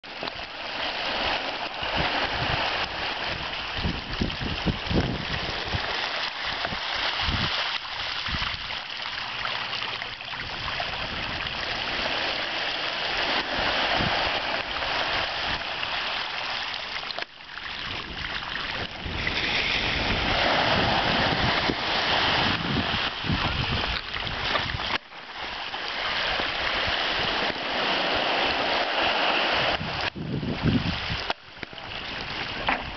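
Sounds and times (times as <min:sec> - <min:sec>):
small waves washing onto gravel: 0:00.0 - 0:32.9
fish splashing in shallows: 0:00.3 - 0:29.8.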